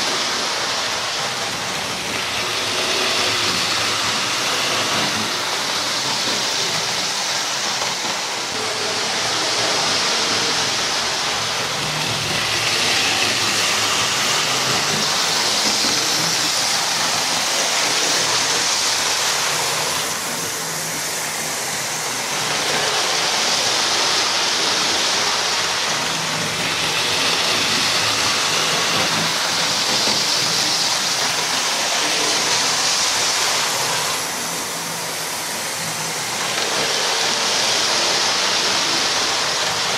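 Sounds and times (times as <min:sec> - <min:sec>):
model train wheels rushing: 0:00.0 - 0:39.9.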